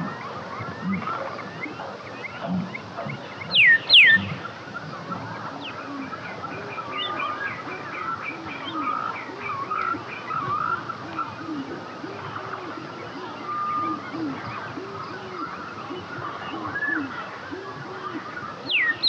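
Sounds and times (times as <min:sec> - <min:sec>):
birds chirping chorus: 0:00.0 - 0:19.0.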